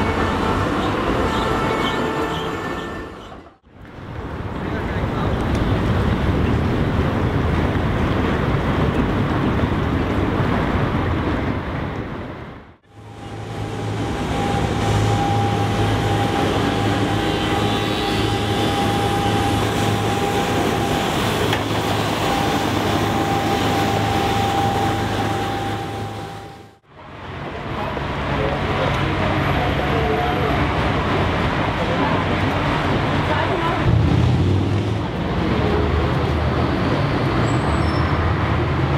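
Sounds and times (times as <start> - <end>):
street traffic: 0.0 - 38.9
truck humming on tram tracks: 0.0 - 38.9.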